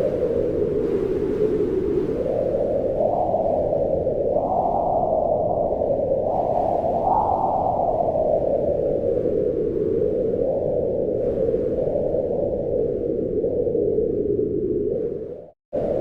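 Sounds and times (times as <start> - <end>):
wind blowing in gusts: 0.0 - 16.0.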